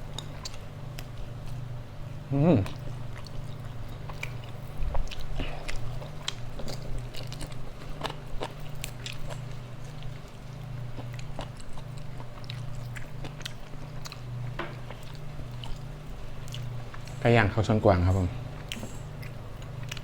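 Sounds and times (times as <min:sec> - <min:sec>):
person chewing food: 0:00.0 - 0:17.2, 0:18.4 - 0:20.0
steady low hum: 0:00.0 - 0:20.0.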